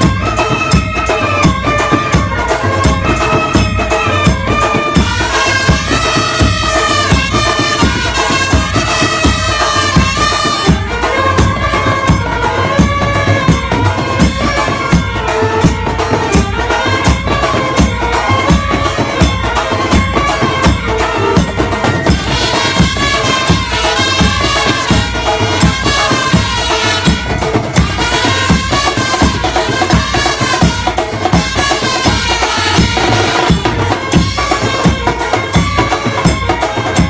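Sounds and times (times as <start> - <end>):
music with drum beat and melody: 0.0 - 37.0.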